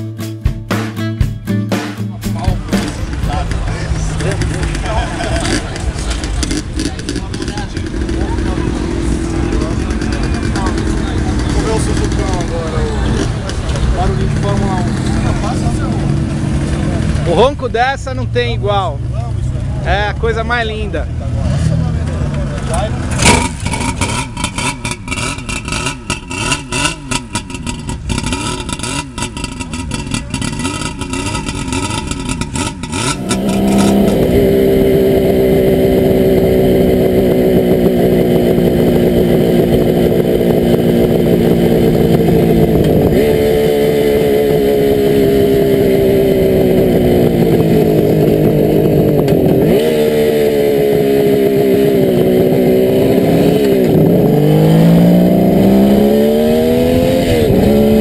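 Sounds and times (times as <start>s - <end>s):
two-stroke engine running: 2.4s - 20.4s, 22.1s - 58.0s.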